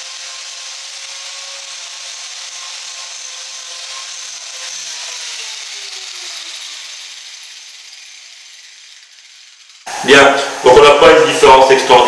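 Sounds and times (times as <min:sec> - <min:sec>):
angle grinder cutting wood: 0:00.0 - 0:12.0
grinder disc spinning down: 0:00.0 - 0:12.0.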